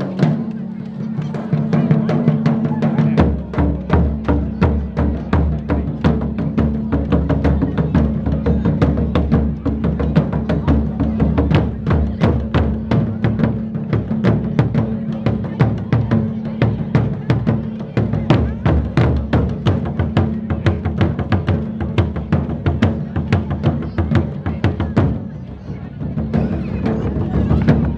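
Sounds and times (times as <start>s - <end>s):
taiko drums beating fast: 0.0s - 27.9s.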